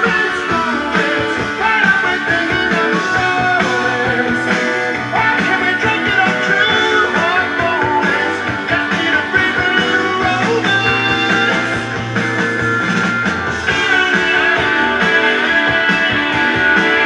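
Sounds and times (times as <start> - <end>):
rock music from vinyl record: 0.0 - 17.0.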